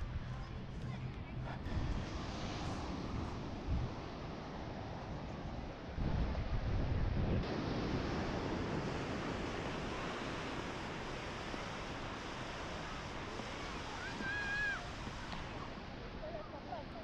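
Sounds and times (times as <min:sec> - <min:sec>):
wind on microphone: 0:00.0 - 0:16.4
waves washing onto beach: 0:01.5 - 0:17.0.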